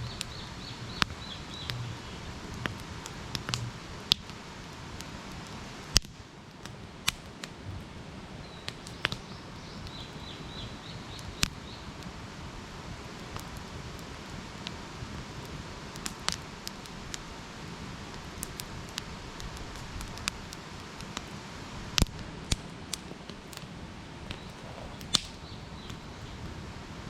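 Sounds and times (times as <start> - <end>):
burning wood popping: 0.0 - 27.0
campfire crackling: 0.0 - 27.0.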